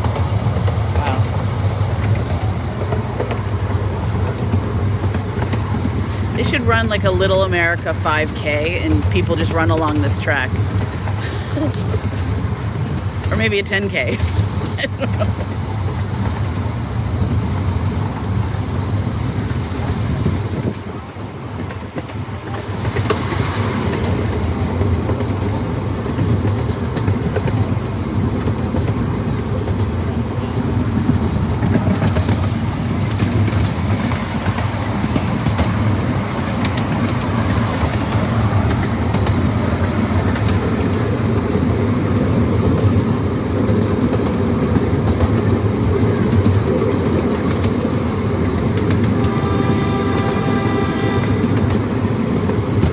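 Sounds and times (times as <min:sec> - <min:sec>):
miniature train running on track: 0:00.0 - 0:52.9.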